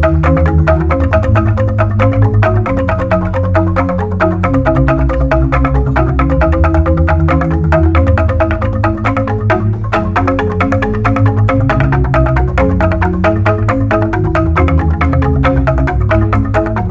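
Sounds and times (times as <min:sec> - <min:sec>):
bamboo xylophone mallet strikes: 0:00.0 - 0:16.9
deep bamboo bass tones: 0:00.0 - 0:16.9.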